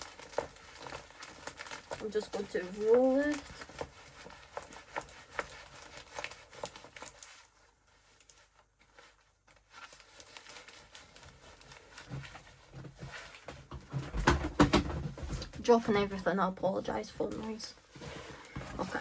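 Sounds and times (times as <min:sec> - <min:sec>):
canvas crinkling and rustling: 0:00.0 - 0:19.0.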